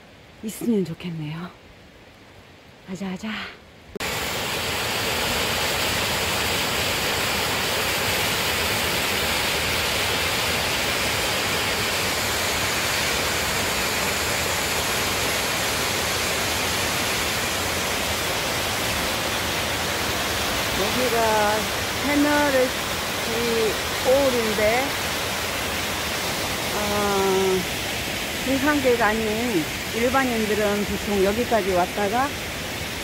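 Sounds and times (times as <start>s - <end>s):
waterfall rushing: 4.0s - 33.0s.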